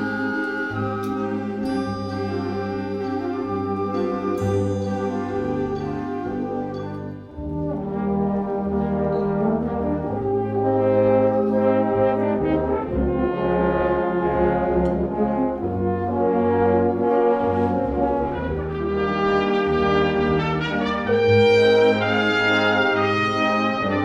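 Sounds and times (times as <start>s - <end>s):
brass section: 0.0s - 24.0s
wind band playing: 0.0s - 24.0s.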